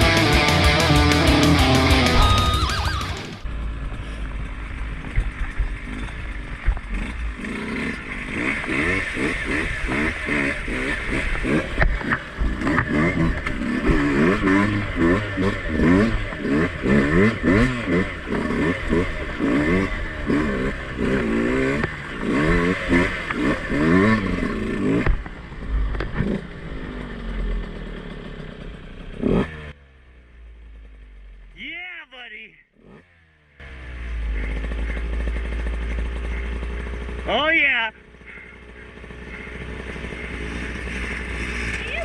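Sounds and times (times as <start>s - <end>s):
dirt bike engine revving: 0.0s - 29.9s, 32.8s - 42.0s.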